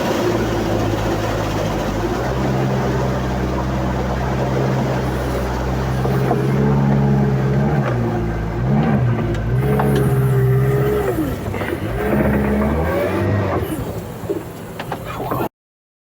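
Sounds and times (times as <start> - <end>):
vehicle engine revving: 0.0 - 14.1.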